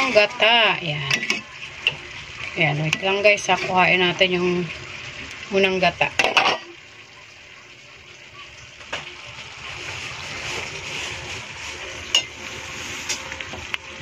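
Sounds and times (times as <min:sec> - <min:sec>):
beans sizzling in a pot: 0:00.0 - 0:14.0.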